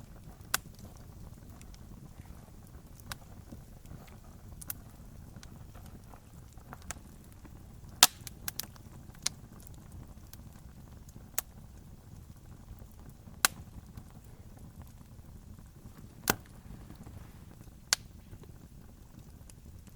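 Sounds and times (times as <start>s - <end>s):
campfire crackling and popping: 0.0s - 19.9s
low rumble of flames: 0.0s - 19.9s.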